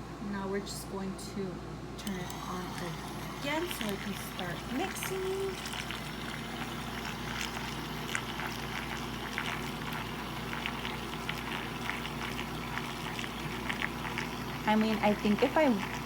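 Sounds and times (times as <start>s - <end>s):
small motor humming: 2.0s - 16.0s
soapy water churning: 2.8s - 16.0s.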